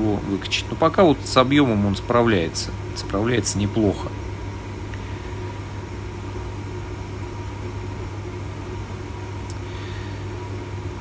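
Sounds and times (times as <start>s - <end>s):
low hum of running equipment: 0.0s - 11.0s.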